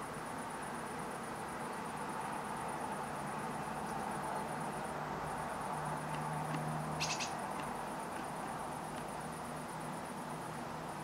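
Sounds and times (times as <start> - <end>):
outdoor background noise: 0.0 - 11.0
pulsing insect trill: 0.0 - 11.0.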